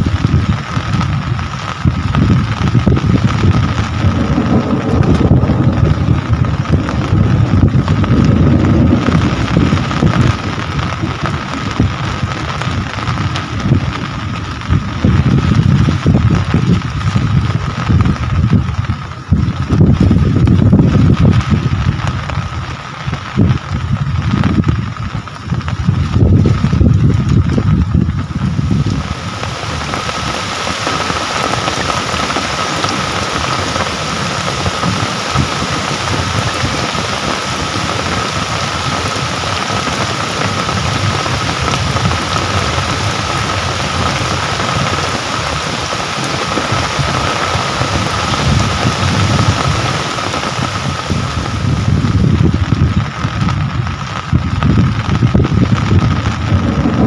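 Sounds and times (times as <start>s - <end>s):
low rumble: 0.0s - 57.0s
steady rain falling: 0.0s - 57.0s.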